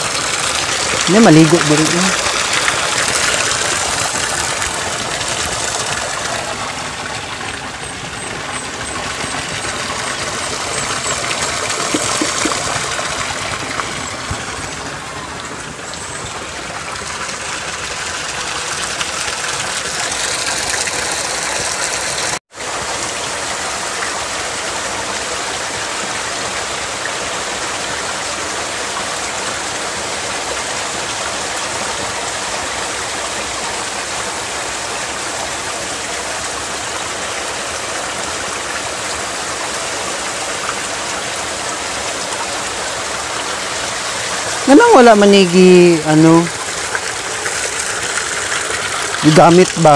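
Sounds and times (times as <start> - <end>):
water pouring over rocks: 0.0 - 49.9.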